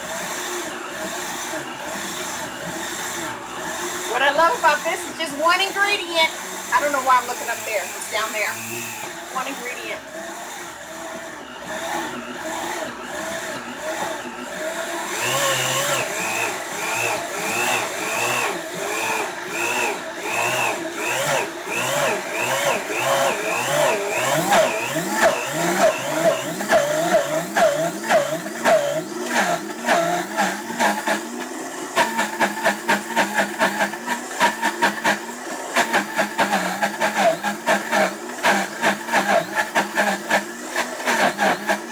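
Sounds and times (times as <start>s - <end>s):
blender grinding: 0.0s - 41.9s.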